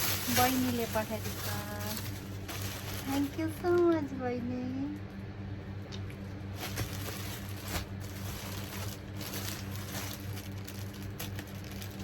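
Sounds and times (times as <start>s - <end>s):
parcel unpacking rustles: 0.0s - 4.1s, 6.3s - 12.0s
low electrical hum: 0.0s - 12.0s.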